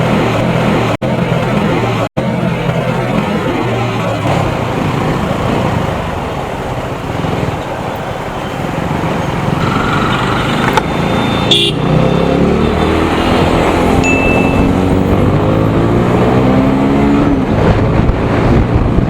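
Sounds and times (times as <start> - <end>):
motorcycle engine running: 0.0 - 19.0
traffic: 0.0 - 19.0
wind and road noise: 0.0 - 19.0.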